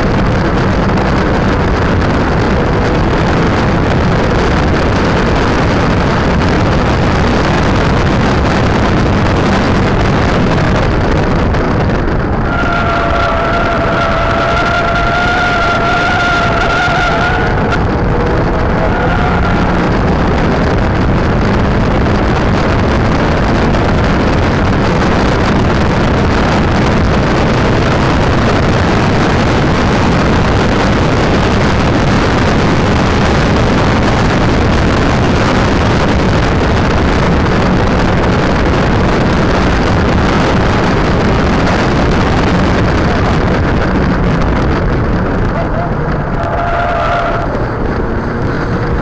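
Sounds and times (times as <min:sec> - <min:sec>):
car engine at speed: 0:00.0 - 0:49.0
wind rush on microphone: 0:00.0 - 0:49.0.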